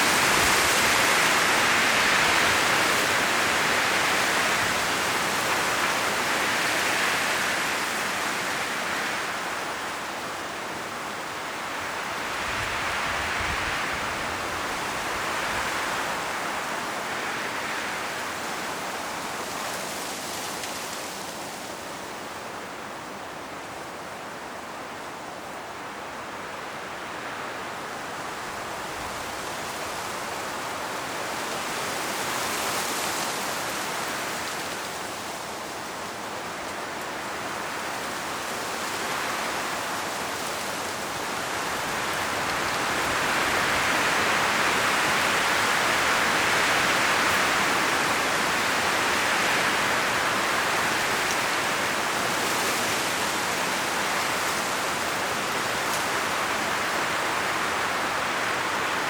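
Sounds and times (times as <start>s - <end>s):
leaves rustling: 0.0s - 59.0s
strong wind through trees: 0.0s - 59.0s.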